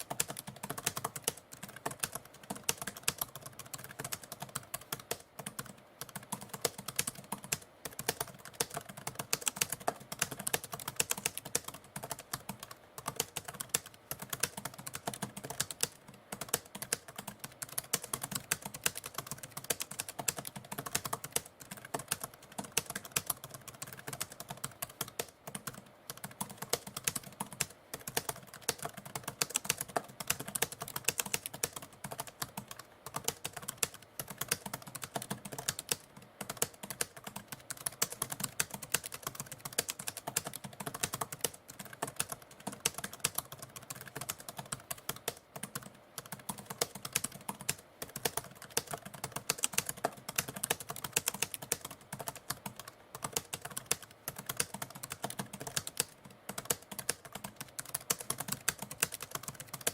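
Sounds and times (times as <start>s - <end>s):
typewriter typing: 0.0s - 59.9s.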